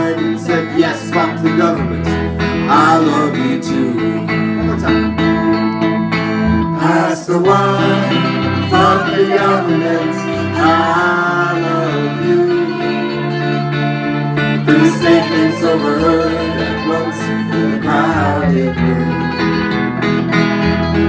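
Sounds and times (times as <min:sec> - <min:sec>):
bass line: 0:00.0 - 0:21.0
strummed guitar: 0:00.0 - 0:21.0.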